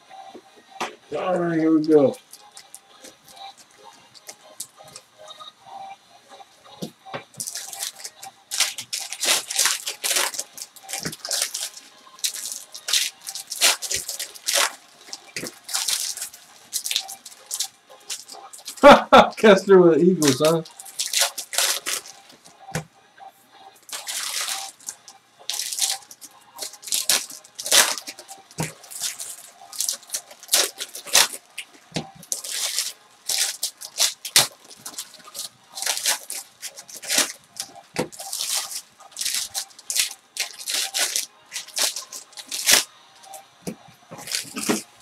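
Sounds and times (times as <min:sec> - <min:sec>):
foil wrappers crinkling and tearing: 0:01.1 - 0:05.0, 0:07.4 - 0:22.8, 0:23.9 - 0:43.4, 0:44.1 - 0:45.0.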